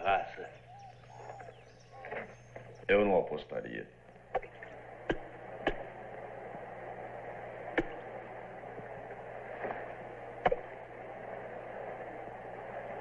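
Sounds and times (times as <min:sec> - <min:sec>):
film soundtrack hiss and hum: 0:00.0 - 0:13.0.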